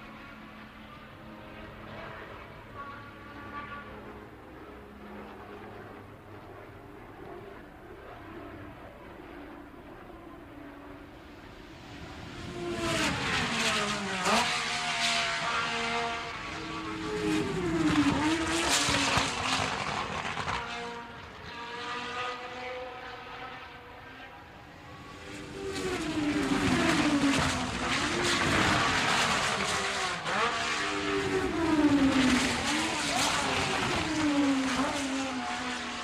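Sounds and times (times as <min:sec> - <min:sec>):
race cars passing at high revs: 0:00.1 - 0:05.4, 0:10.9 - 0:36.0.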